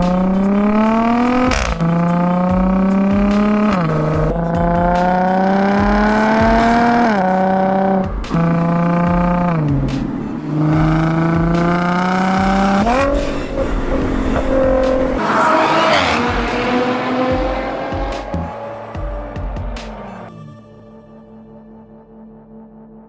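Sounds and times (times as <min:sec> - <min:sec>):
car engine accelerating hard: 0:00.0 - 0:20.2.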